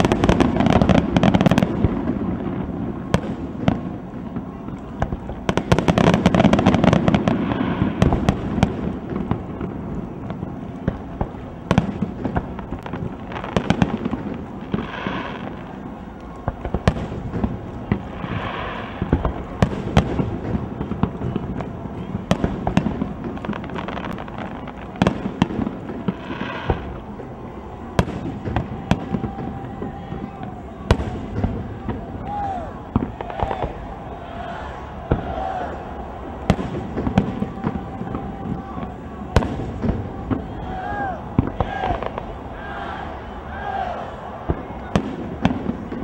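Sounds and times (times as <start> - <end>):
fireworks bursting with sharp bangs: 0.0 - 46.0.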